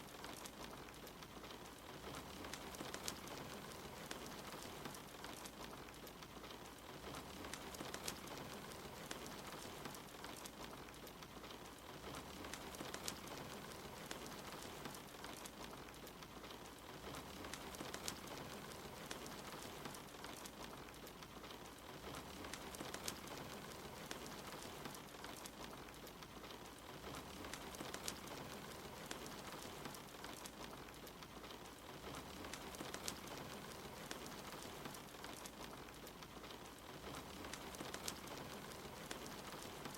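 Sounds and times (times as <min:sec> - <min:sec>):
fire crackling: 0:00.0 - 0:39.9
rain pattering: 0:00.0 - 0:39.9.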